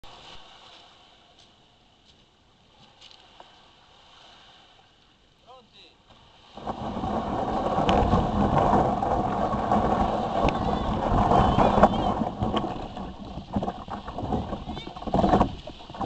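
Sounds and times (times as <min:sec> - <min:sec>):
water splashes: 0:00.0 - 0:01.4, 0:02.8 - 0:16.0
water and wind rushing: 0:00.0 - 0:16.0.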